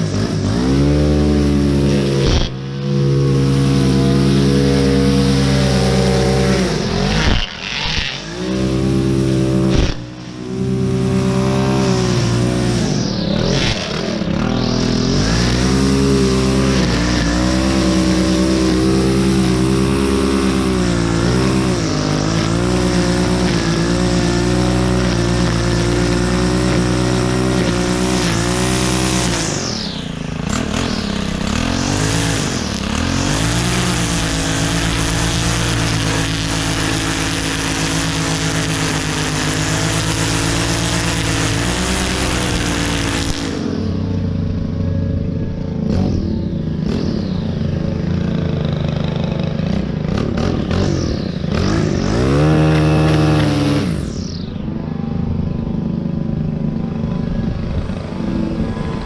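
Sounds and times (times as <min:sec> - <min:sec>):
string trimmer engine revving: 0:00.0 - 0:59.0
trimmer line cutting grass: 0:00.0 - 0:59.0.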